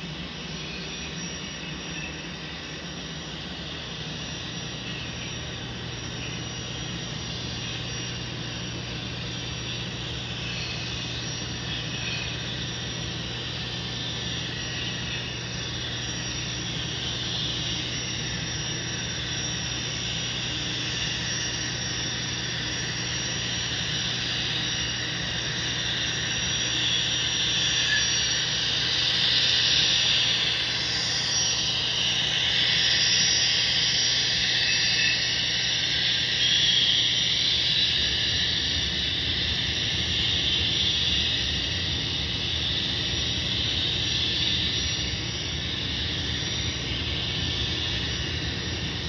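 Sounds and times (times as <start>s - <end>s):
model train running: 6.0s - 49.0s.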